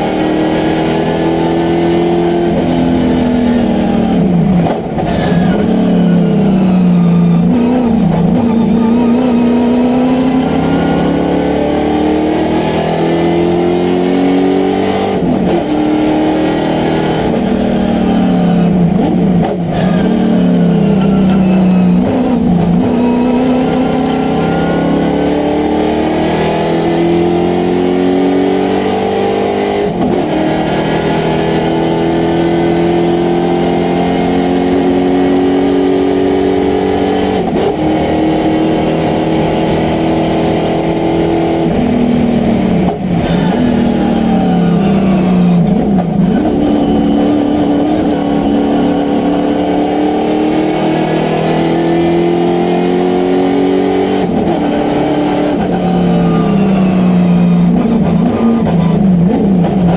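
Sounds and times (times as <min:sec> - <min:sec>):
race car engine from cockpit: 0:00.0 - 0:59.9.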